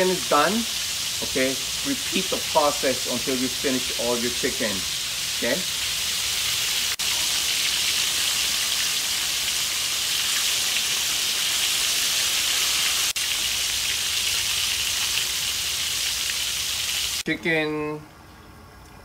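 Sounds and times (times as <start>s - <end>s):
chicken deep-frying in hot oil: 0.0s - 17.3s.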